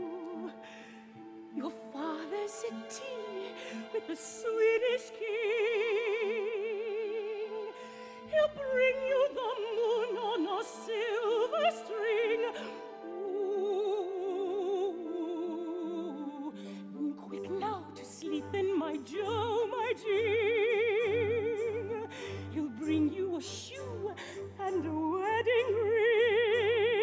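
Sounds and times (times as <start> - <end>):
soft orchestral accompaniment: 0.0 - 27.0
woman singing a lullaby: 1.6 - 7.7, 8.3 - 27.0.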